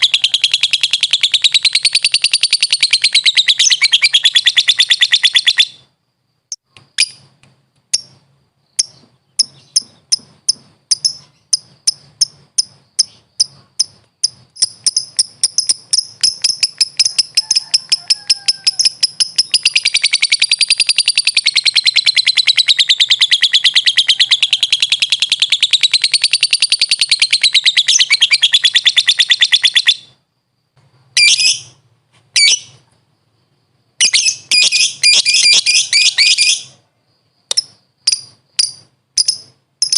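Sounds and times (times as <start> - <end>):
lovebird chattering trill: 0.0 - 5.9, 7.9 - 30.2, 31.2 - 31.8, 34.0 - 36.8, 37.5 - 39.9.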